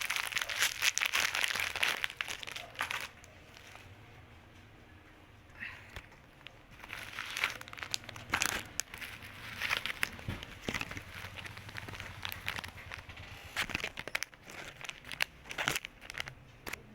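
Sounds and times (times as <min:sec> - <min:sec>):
packaging crinkling and rustling: 0:00.0 - 0:03.9, 0:05.9 - 0:16.9.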